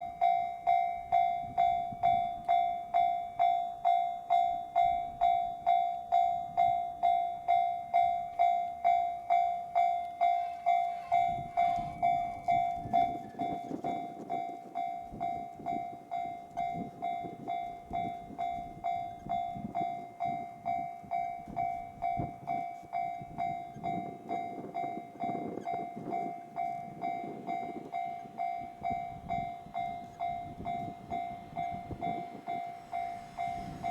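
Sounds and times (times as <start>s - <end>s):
freight train wheels rumbling: 0.0s - 33.9s
level-crossing warning bell ringing: 0.0s - 33.9s.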